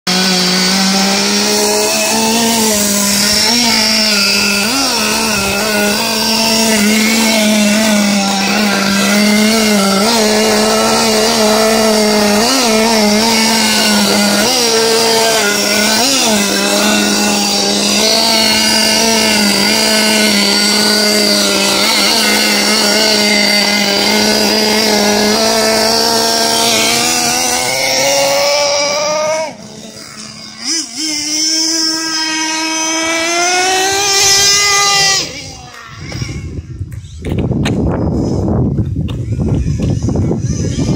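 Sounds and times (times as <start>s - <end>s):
small model engine buzzing: 0.1s - 40.9s.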